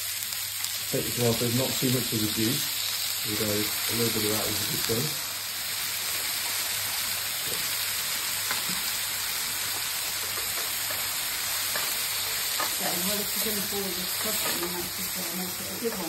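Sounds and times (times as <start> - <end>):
tomatoes sizzling in hot oil: 0.0 - 16.0.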